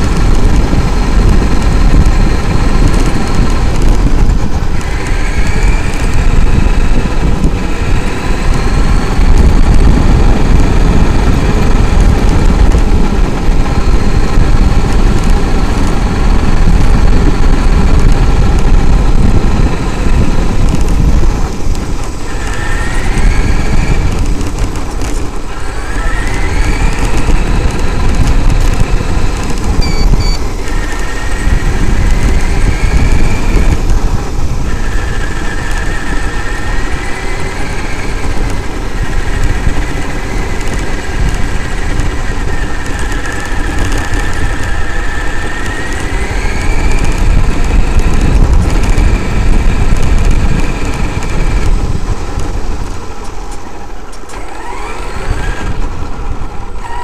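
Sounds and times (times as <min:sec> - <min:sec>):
electric motor whine: 0:00.0 - 0:57.0
tyres rumbling on gravel: 0:00.0 - 0:57.0.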